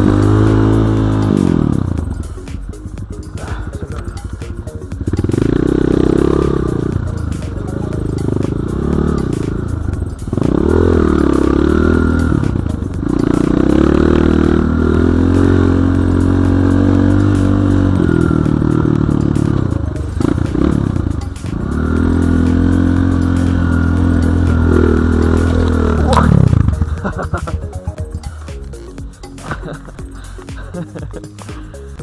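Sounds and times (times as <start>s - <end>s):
dirt bike engine revving: 0.0s - 31.8s.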